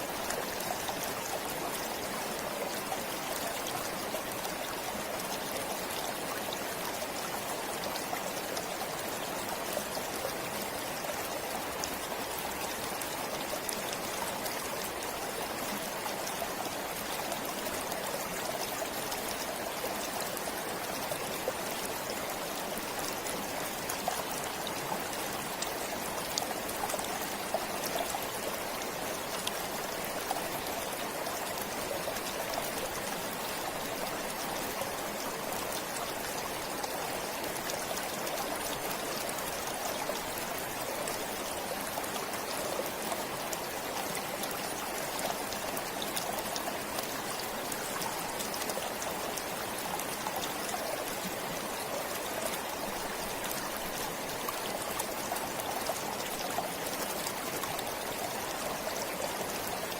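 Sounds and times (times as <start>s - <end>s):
stream rushing water: 0.0s - 59.9s
water splashes and trickles: 0.0s - 59.9s.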